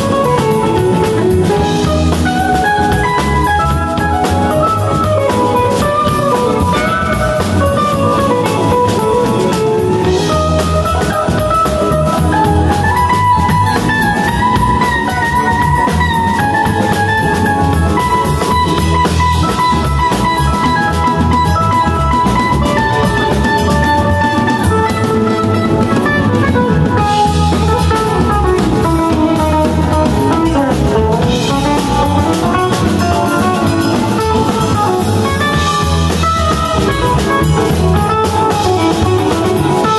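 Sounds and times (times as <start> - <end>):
electric guitar lines: 0.0 - 39.9
rock band playing: 0.0 - 39.9.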